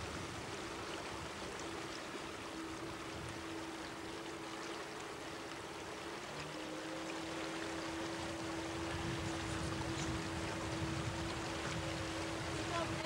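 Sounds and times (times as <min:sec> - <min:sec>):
faint steady hum: 0:00.0 - 0:13.0
water rushing around boat: 0:00.0 - 0:13.0.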